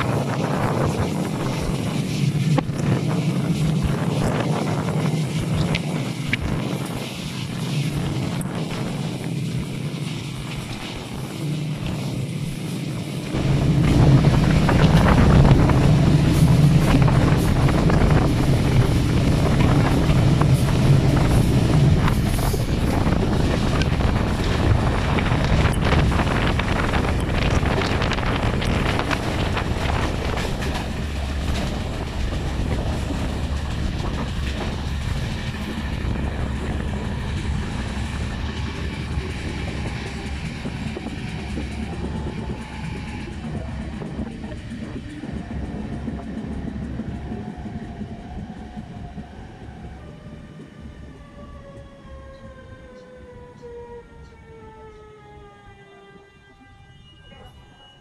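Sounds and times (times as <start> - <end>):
train wheels clattering over rail joints: 0.0 - 48.6
wind on microphone: 0.0 - 53.5.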